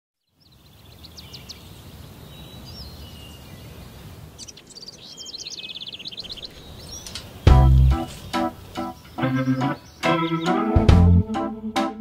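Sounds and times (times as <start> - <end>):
birds chirping and whistling: 0.4 - 11.0.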